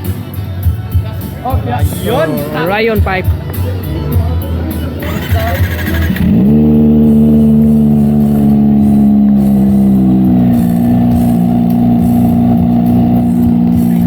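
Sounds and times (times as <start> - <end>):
motorcycle engine revving: 1.4 - 14.0.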